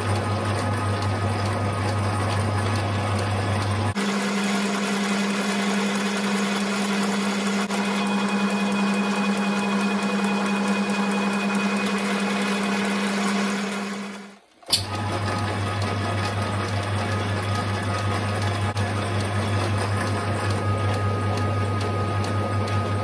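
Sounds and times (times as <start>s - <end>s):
lathe motor humming: 0.0s - 23.0s.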